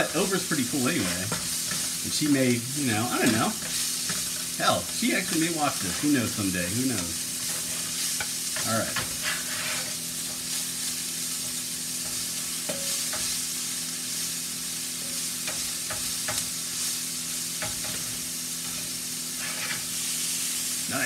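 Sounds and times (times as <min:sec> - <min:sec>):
spatula scraping pan: 0:00.0 - 0:14.2, 0:15.1 - 0:20.5
food sizzling in frying pan: 0:00.0 - 0:21.0.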